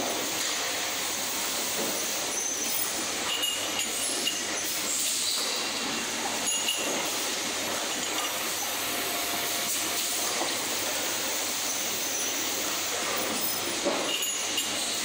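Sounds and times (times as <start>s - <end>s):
assembly line machinery din: 0.0s - 15.0s.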